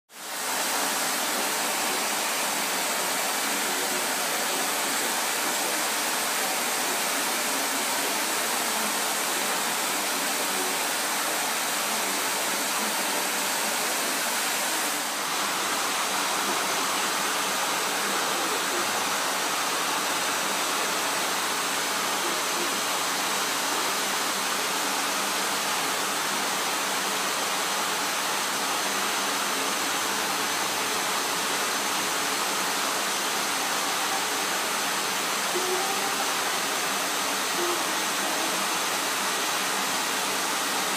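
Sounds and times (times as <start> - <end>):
vacuum cleaner running: 0.2 - 40.9.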